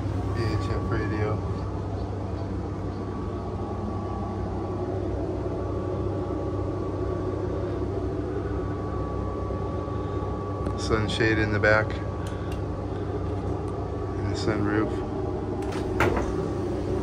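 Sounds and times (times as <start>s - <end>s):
outboard engines droning: 0.0s - 17.0s.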